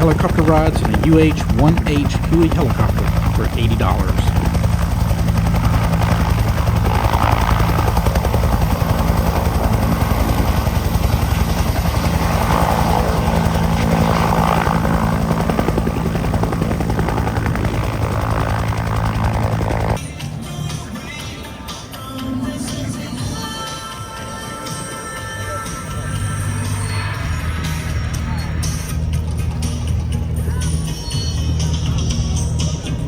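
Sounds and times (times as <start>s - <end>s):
helicopter rotor beating: 0.0s - 33.0s
helicopter turbine hum: 0.0s - 33.0s.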